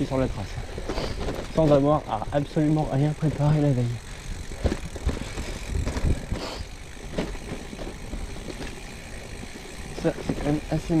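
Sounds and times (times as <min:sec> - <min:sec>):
bike tyres rolling on dirt: 0:00.0 - 0:11.0.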